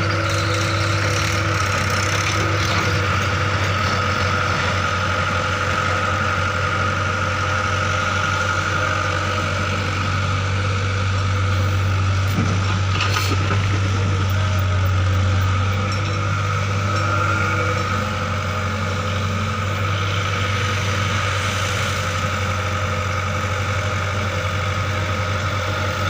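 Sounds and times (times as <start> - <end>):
heavy engine running: 0.0 - 26.0.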